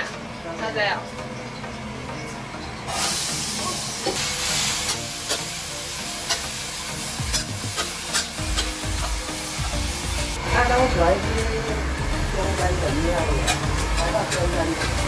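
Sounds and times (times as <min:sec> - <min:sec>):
food sizzling in a hot pan: 0:02.9 - 0:15.0.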